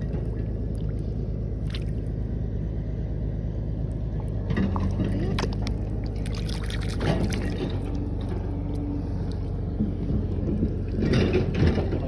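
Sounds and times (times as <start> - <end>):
shallow water sloshing: 0.0 - 2.4, 3.9 - 12.0
wet mud squelching: 0.0 - 2.4, 3.9 - 12.0
steady low hum: 0.0 - 12.0.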